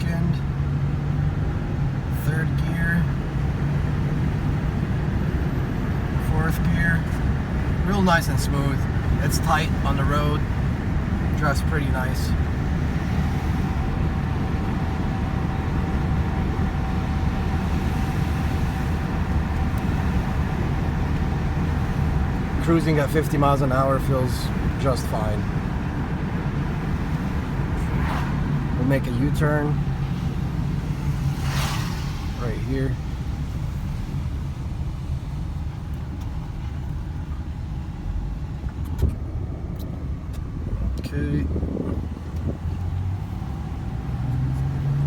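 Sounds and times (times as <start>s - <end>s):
engine and road rumble in car: 0.0s - 45.0s.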